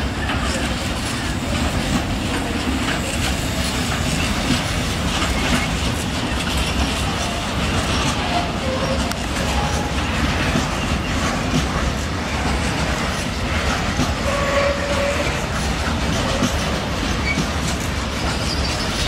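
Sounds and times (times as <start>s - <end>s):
freight train rumbling past: 0.0s - 19.0s
wheels clattering over rail joints: 0.0s - 19.0s.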